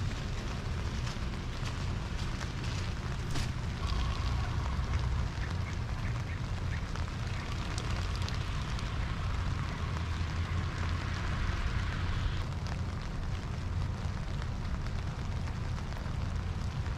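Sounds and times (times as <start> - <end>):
raindrop ticks: 0.0 - 16.9
steady rain hiss: 0.0 - 16.9.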